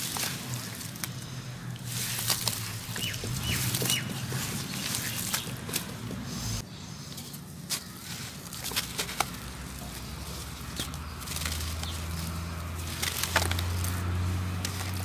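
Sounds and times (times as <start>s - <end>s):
gritty crunching of cement lumps: 0.0s - 6.2s, 7.7s - 15.0s.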